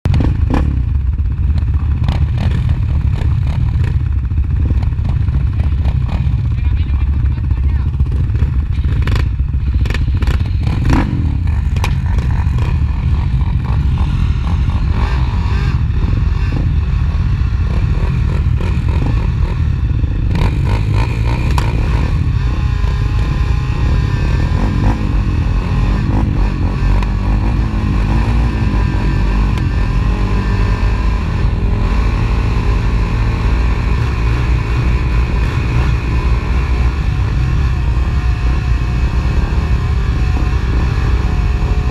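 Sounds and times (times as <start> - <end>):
atv engines revving: 0.1 - 41.9.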